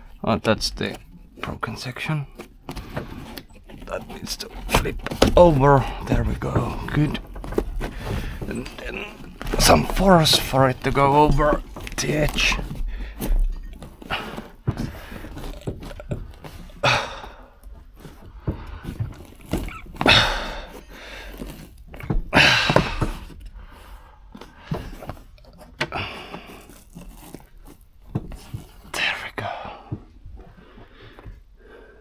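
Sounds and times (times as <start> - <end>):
trim panels rustling and scraping: 0.0 - 31.4.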